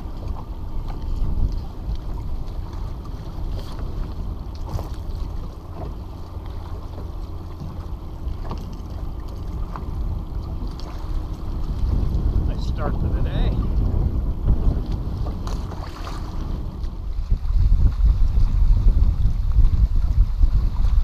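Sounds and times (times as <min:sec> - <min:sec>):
waves slapping against boat hull: 0:00.0 - 0:21.0
wind rumbling on microphone: 0:00.0 - 0:21.0.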